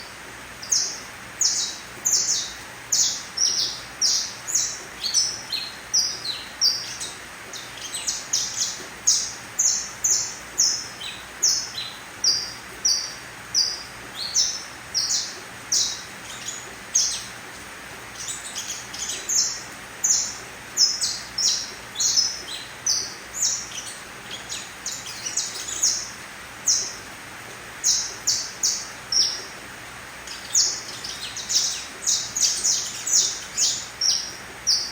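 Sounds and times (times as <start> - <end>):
canary chirping: 0.0 - 34.9.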